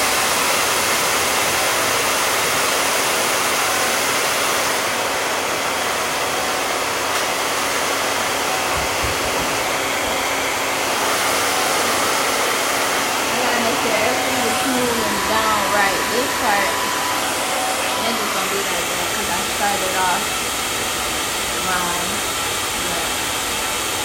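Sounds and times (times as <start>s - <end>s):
hair dryer blowing: 0.0s - 24.0s.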